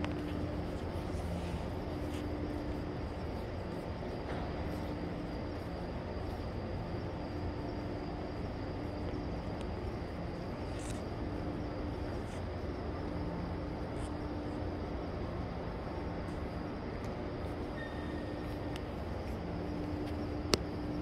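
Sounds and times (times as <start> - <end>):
faint steady tones: 0.0 - 21.0
outdoor rumble and hum: 0.0 - 21.0.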